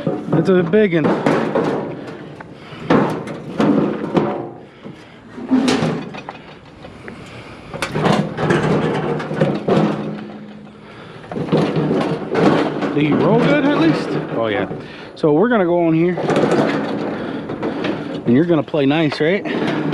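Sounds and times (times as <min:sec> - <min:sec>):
metal grill clanking and rattling: 0:00.0 - 0:04.7, 0:05.4 - 0:06.8, 0:07.8 - 0:19.9.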